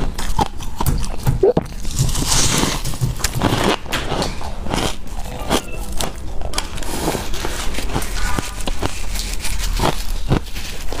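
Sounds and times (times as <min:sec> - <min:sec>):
ice being chewed: 0:00.0 - 0:11.0.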